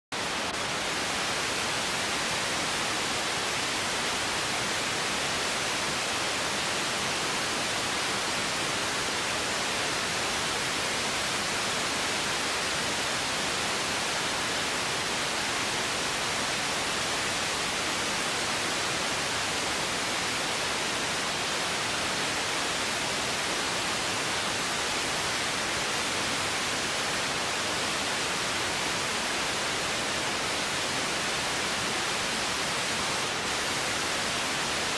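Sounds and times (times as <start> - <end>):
static hiss: 0.2 - 34.9.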